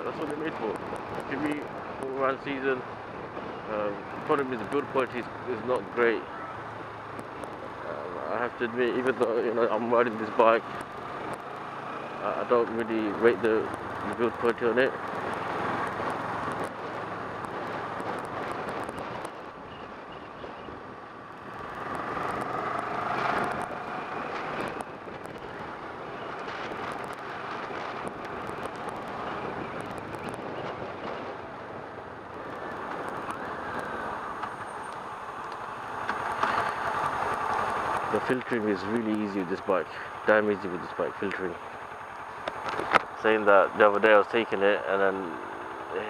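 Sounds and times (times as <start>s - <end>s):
motorcycle engine riding: 0.0s - 46.0s
wind rushing over microphone: 8.5s - 46.0s.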